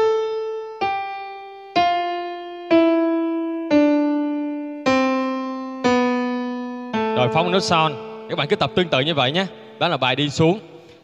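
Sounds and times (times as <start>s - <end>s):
piano notes descending scale: 0.0s - 10.6s.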